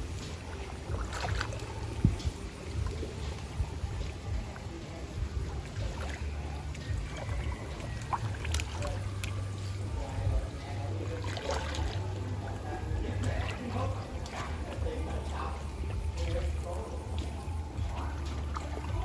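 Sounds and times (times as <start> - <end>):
faint voices: 0.0 - 19.0
water sloshing and trickling: 0.0 - 19.0.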